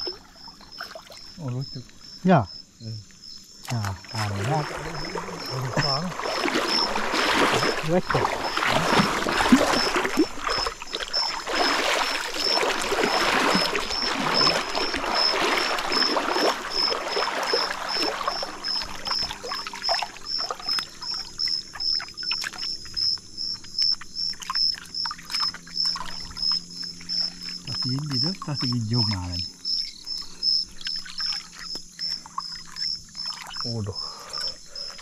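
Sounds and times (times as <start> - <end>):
river water splashing: 0.0 - 1.4, 3.6 - 35.0.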